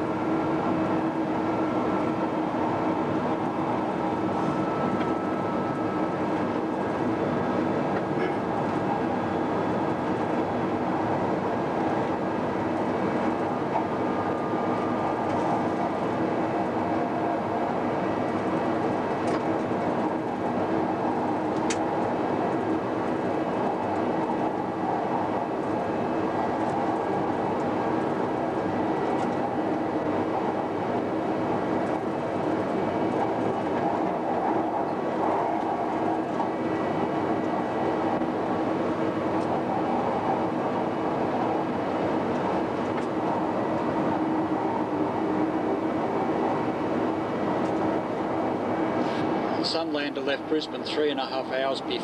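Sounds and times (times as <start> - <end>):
train running noise with hum: 0.0 - 52.0.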